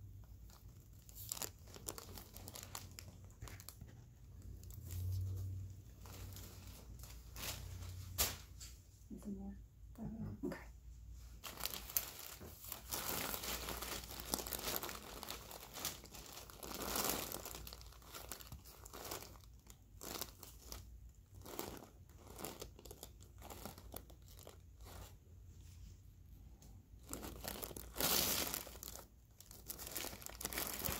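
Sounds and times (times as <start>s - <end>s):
plastic sheet crinkling: 0.0s - 8.7s, 11.2s - 25.2s, 27.0s - 30.9s.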